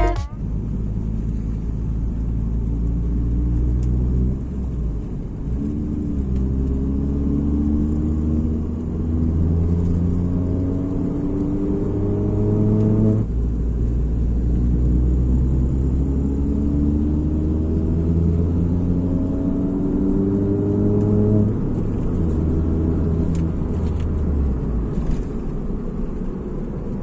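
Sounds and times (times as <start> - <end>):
vehicle engine accelerating: 0.0 - 27.0.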